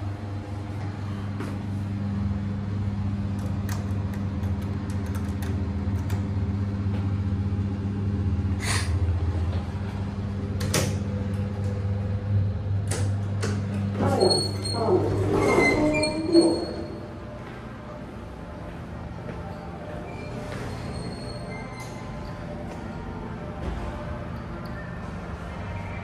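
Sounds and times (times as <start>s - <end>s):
elevator car humming: 0.0s - 26.0s.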